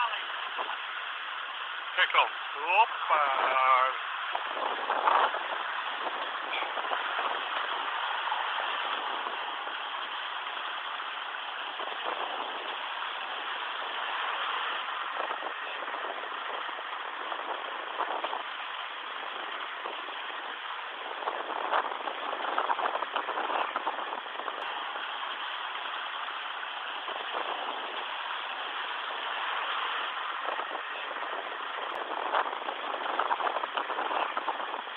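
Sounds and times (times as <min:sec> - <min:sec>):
sea water rushing around boat: 0:00.0 - 0:34.9.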